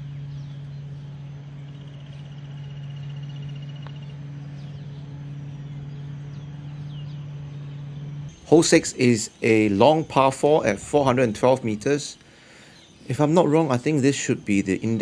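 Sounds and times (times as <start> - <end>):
bird trilling: 0.0 - 15.0
birds chirping: 0.0 - 15.0
steady low hum: 0.0 - 15.0.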